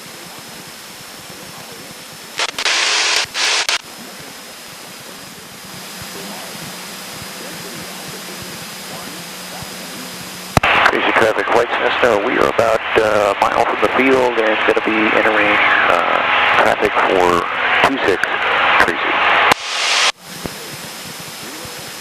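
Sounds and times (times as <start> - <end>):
loud hiss: 0.0 - 16.8, 18.5 - 22.0
aircraft engine and propeller: 0.0 - 22.0.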